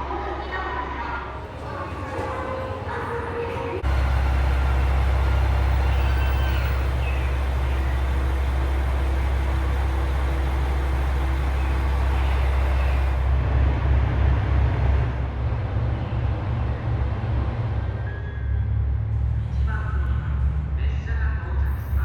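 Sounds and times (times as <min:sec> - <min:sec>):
diesel engine low rumble: 0:00.0 - 0:22.0.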